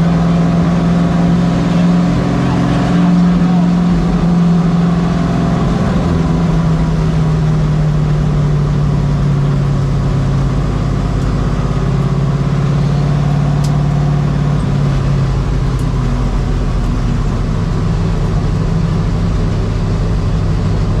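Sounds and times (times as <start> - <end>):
truck engine running at low revs: 0.0 - 21.0.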